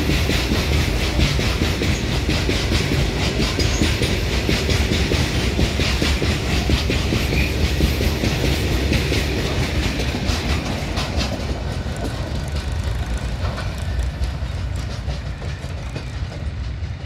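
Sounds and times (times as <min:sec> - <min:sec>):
train rumble: 0:00.0 - 0:17.0
train wheels clattering over rail joints: 0:00.0 - 0:17.0.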